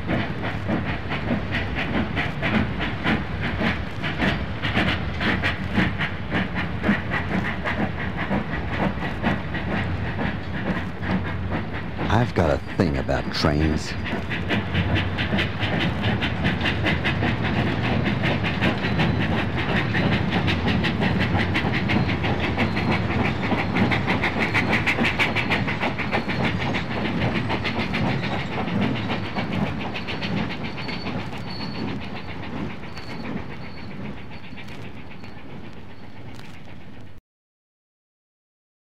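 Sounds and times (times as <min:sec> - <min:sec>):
train wheels clicking: 0:00.0 - 0:37.2.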